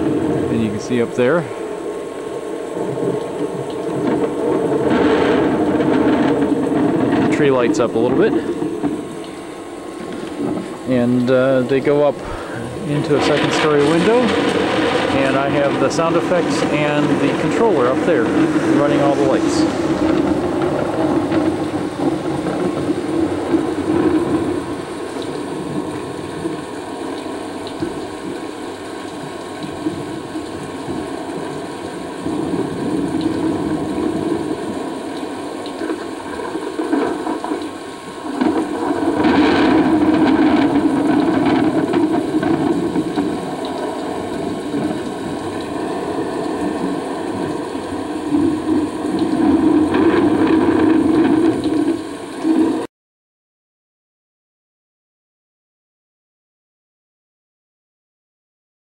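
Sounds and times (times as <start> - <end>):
rain: 0.0 - 52.9
thunder rumbles: 0.0 - 52.9.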